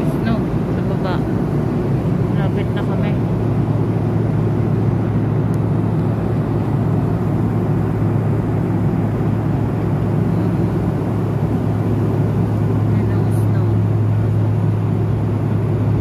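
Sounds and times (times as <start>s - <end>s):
airliner cabin drone: 0.0s - 16.0s.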